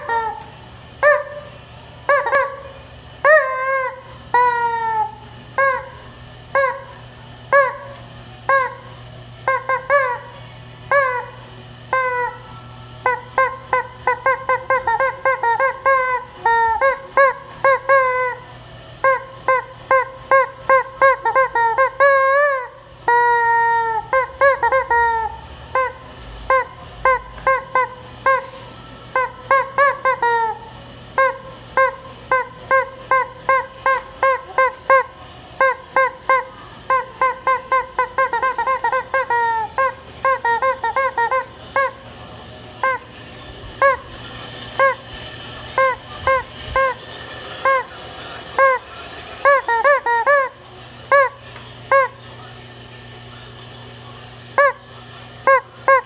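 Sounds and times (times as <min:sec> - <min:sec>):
chicken squawks: 0:00.0 - 0:42.2, 0:42.8 - 0:52.3.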